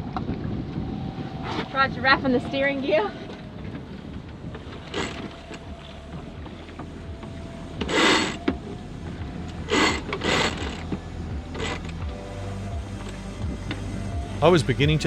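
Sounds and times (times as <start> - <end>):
water splashing around boat hull: 0.0 - 13.9
steady low rumble: 0.0 - 15.0.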